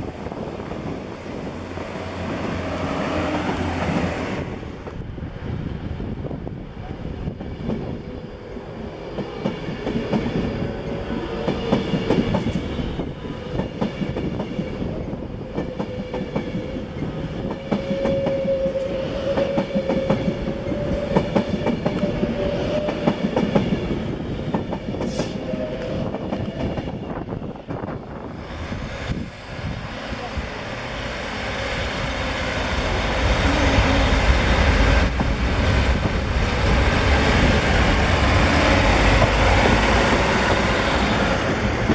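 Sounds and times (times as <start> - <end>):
steady train tone: 0.0 - 41.9.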